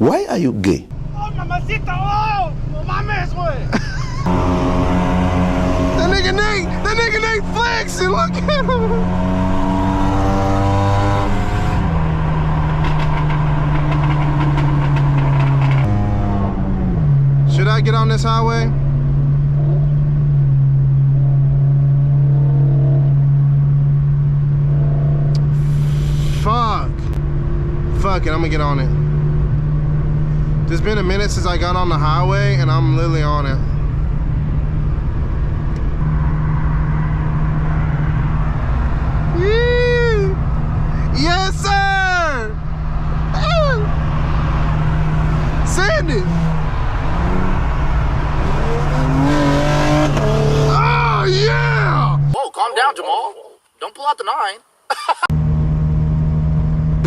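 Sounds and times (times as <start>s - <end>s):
road noise: 0.0s - 57.0s
car engine droning: 0.9s - 52.4s, 55.3s - 57.0s.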